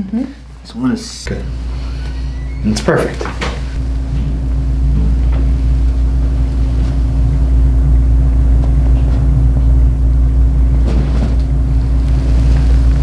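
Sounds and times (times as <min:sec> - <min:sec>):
constant tone: 0:01.1 - 0:13.0
loud low hum: 0:01.2 - 0:13.0.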